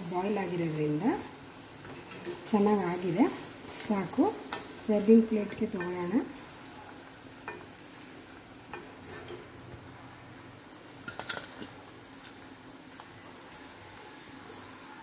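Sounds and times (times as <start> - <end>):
frying oil sizzling: 0.0 - 15.0.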